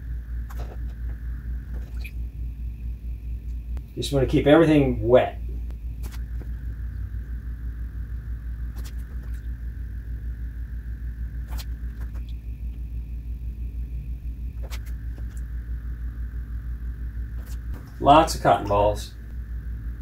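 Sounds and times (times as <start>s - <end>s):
low throbbing rumble: 0.0s - 20.0s.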